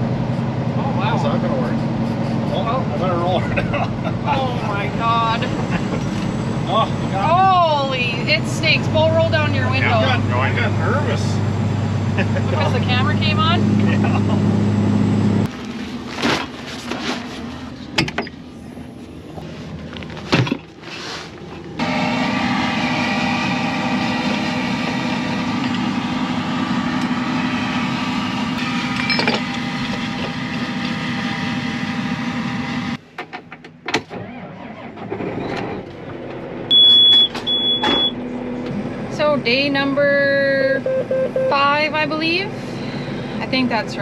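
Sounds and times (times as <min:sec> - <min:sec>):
vehicle engine whining hum: 0:00.0 - 0:44.0.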